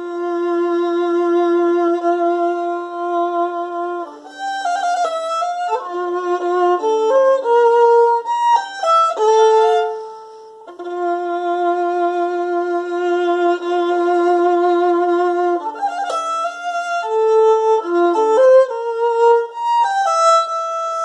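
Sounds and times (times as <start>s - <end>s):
solo violin: 0.0s - 21.0s.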